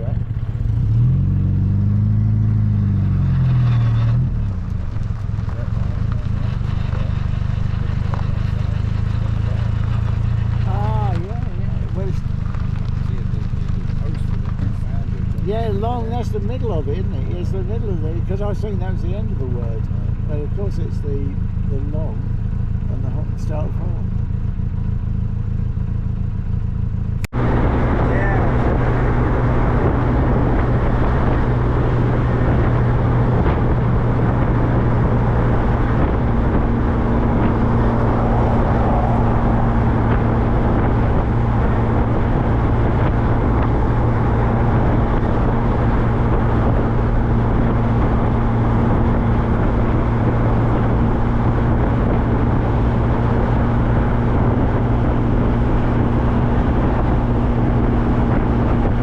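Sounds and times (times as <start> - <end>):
small car engine droning: 0.0 - 59.0
wind and road noise: 0.0 - 59.0.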